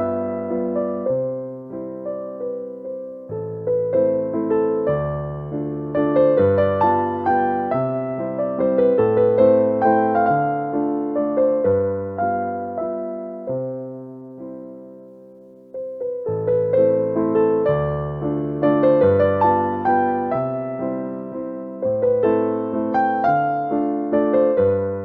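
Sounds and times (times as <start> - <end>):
electric piano music: 0.0 - 25.0.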